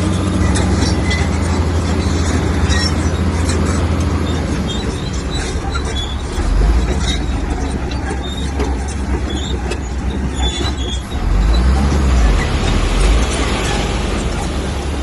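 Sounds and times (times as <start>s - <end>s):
bulldozer diesel engine rumbling: 0.0s - 15.0s
steel tracks squealing: 0.0s - 15.0s.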